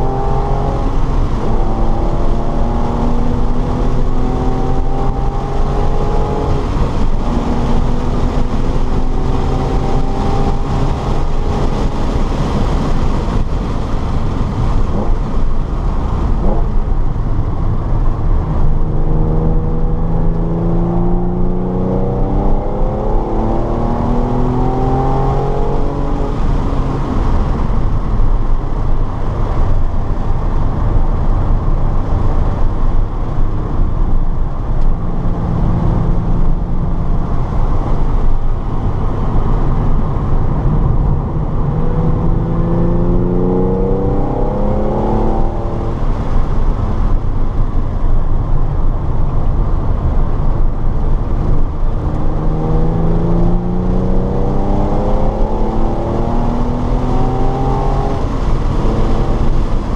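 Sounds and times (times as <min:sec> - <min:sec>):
car engine accelerating hard: 0:00.0 - 0:59.9
road and wind noise: 0:00.0 - 0:59.9.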